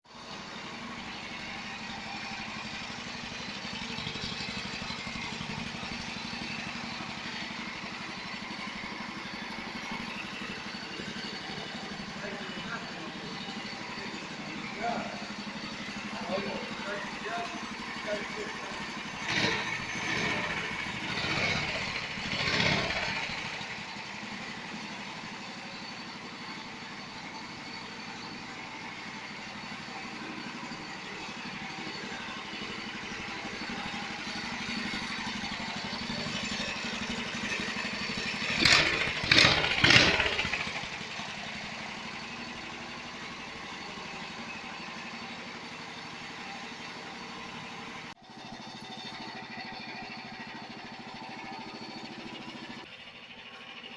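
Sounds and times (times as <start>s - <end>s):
small engine running: 0.1s - 53.9s.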